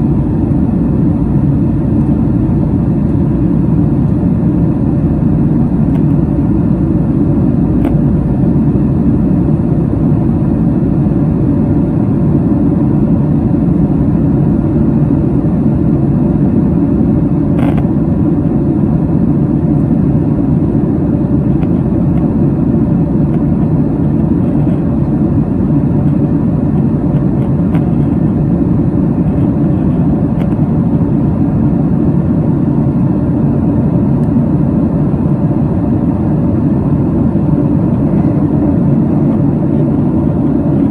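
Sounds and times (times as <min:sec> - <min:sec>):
jet cabin roar: 0:00.0 - 0:40.9.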